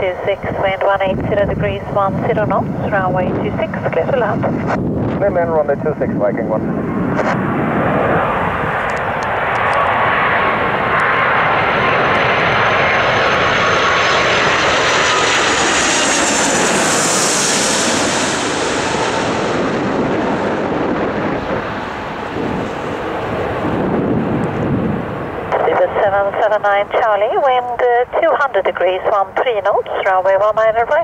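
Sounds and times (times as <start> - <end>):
jet airliner passing: 0.0 - 31.0.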